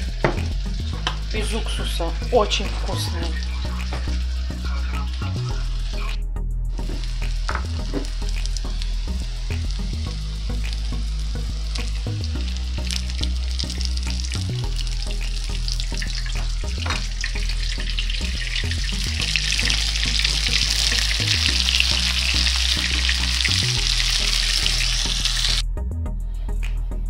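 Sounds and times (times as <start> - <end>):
patties sizzling in hot oil: 0.0 - 6.1, 6.8 - 25.6.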